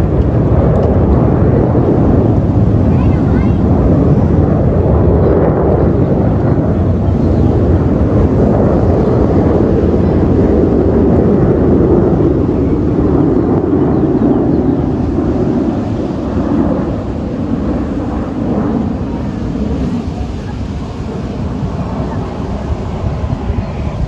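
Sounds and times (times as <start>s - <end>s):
jet aircraft flying past: 0.0s - 24.0s.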